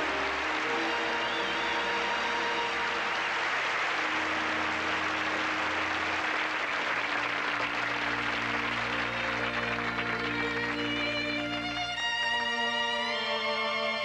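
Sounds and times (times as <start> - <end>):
audience applauding: 0.0 - 14.0
band music with held notes: 0.0 - 14.0.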